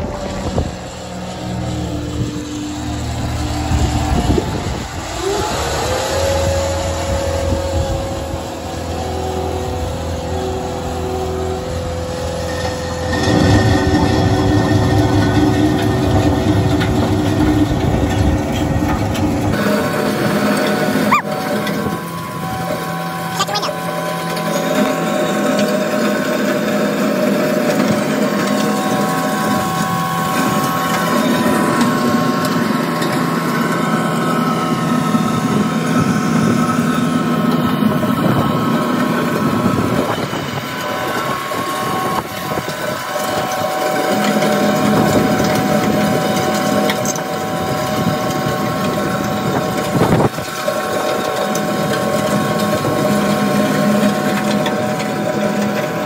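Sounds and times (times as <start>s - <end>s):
diesel engine and hydraulics: 0.0s - 56.0s.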